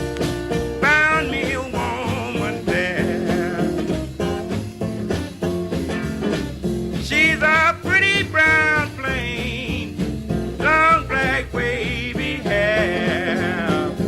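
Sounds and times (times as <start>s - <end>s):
blues song with guitar and singing: 0.0s - 14.0s.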